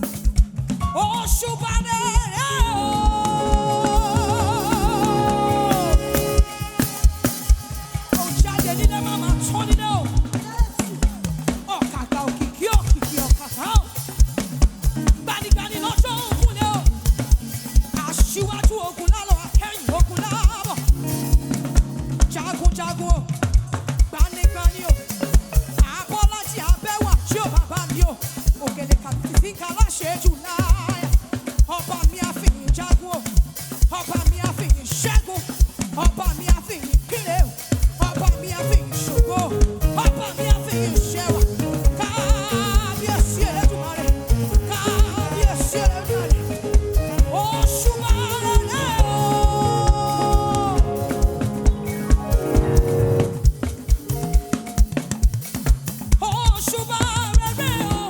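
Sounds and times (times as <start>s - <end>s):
live band playing gospel music: 0.0s - 58.0s
steady drum beat: 0.0s - 58.0s.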